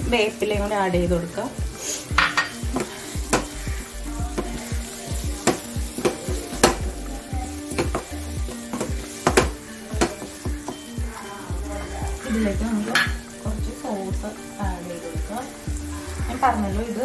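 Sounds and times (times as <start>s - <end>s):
masala sizzling: 0.0s - 17.0s.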